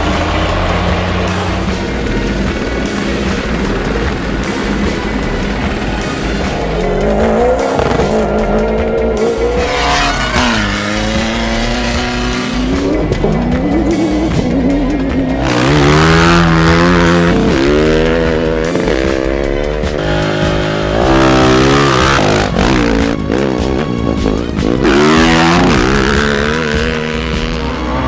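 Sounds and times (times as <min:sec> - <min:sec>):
music: 0:00.0 - 0:28.0
rally car engines revving past: 0:00.0 - 0:28.0.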